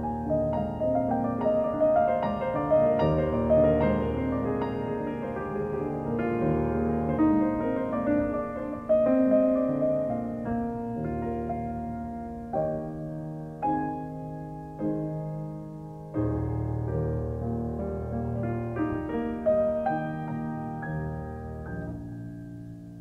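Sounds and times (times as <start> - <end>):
calm piano music: 0.0 - 23.0.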